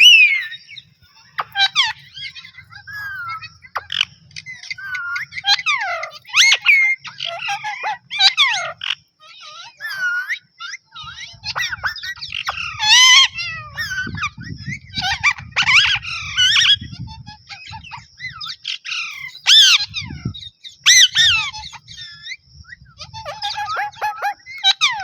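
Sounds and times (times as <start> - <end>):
parrot squawking: 0.0 - 0.6, 1.2 - 20.3, 20.9 - 22.2, 23.0 - 25.0.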